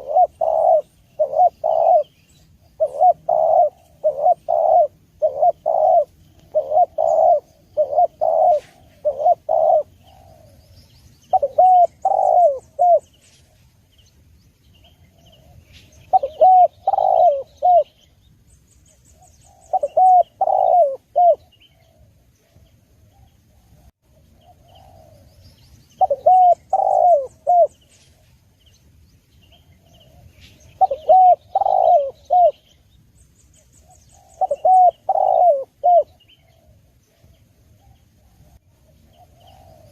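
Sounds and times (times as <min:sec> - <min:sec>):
dove cooing: 0:00.0 - 0:13.6, 0:14.8 - 0:18.0, 0:19.2 - 0:25.3, 0:26.0 - 0:28.3, 0:29.5 - 0:32.7, 0:33.8 - 0:39.9
small birds chirping: 0:00.0 - 0:39.9.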